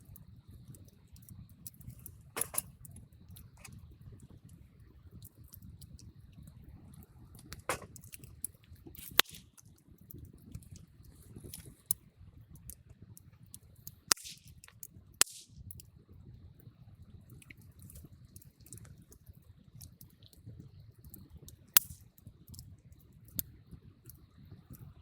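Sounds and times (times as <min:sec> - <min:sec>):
burning wood popping: 0:00.0 - 0:15.8, 0:17.3 - 0:25.0
campfire crackling: 0:00.0 - 0:25.0.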